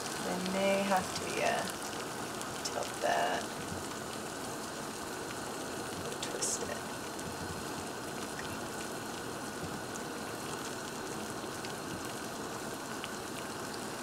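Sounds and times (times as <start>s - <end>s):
water boiling in saucepan: 0.0s - 14.0s.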